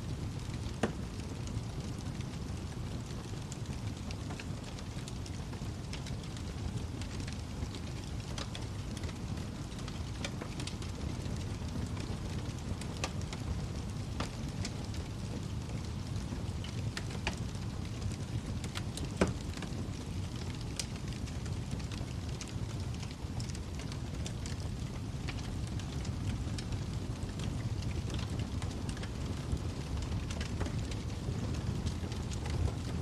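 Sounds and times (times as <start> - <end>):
wood fire crackling: 0.1 - 33.0
fire popping: 0.2 - 33.0.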